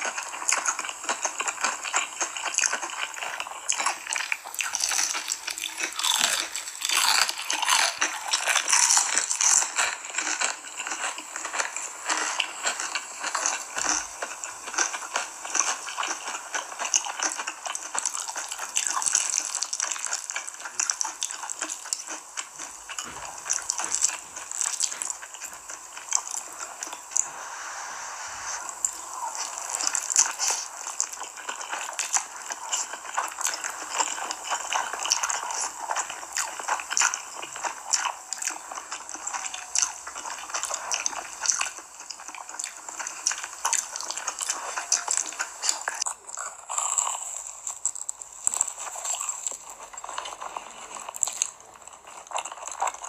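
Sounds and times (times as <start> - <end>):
chewing noodles: 0.0 - 27.3, 28.4 - 53.0
crunching fried food: 0.0 - 27.3, 28.7 - 53.0.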